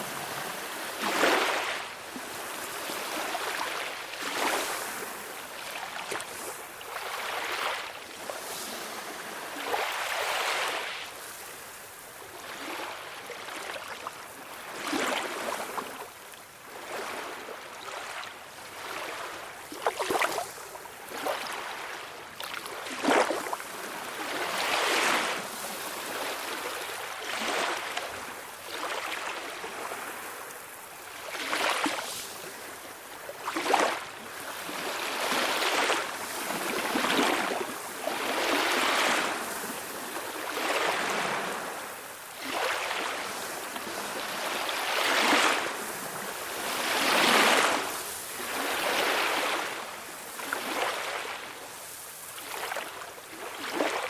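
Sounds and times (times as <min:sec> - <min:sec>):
small waves washing ashore: 0:00.0 - 0:54.0.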